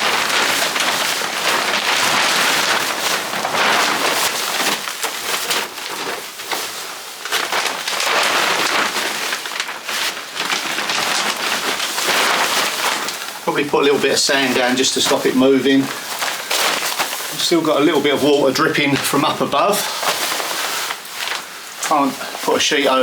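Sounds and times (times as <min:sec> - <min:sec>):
plastic sheeting rustling: 0:00.0 - 0:23.0.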